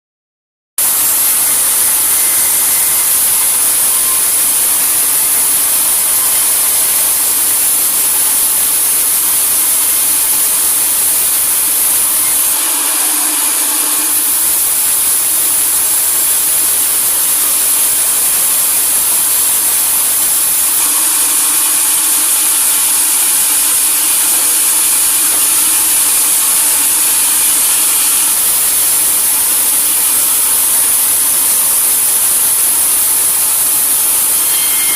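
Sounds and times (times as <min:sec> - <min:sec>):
sawmill saw running: 0:00.8 - 0:34.9.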